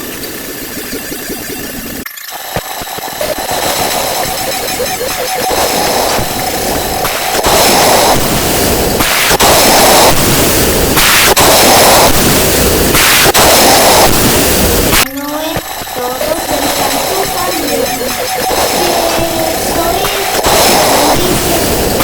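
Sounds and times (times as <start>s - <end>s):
harsh sped-up noise effect: 0.0s - 22.0s.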